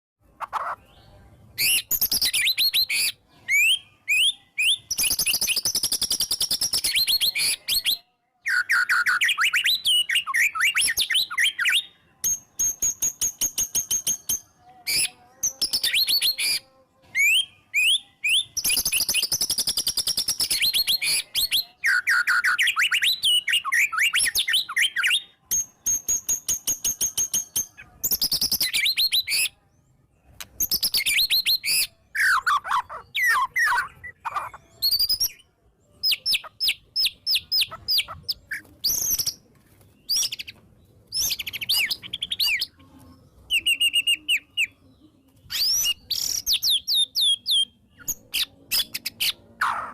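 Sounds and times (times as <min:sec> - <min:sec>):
songbird singing whistles: 0:00.5 - 0:29.6, 0:30.4 - 0:39.4, 0:40.0 - 0:42.7, 0:43.5 - 0:44.8, 0:45.4 - 0:49.9.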